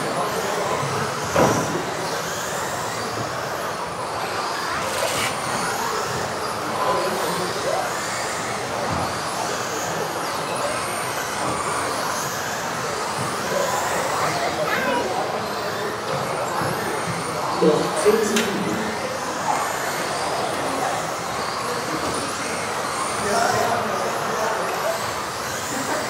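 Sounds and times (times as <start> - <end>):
high electric motor whines: 0.0 - 26.0
steady hall noise: 0.0 - 26.0.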